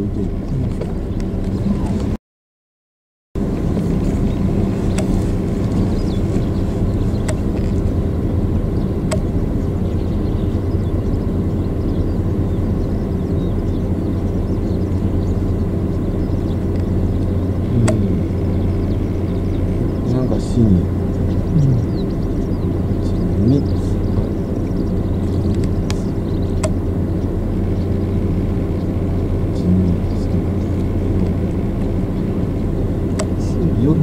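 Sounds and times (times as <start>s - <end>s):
vehicle engine idling: 0.0s - 2.2s, 3.4s - 34.0s.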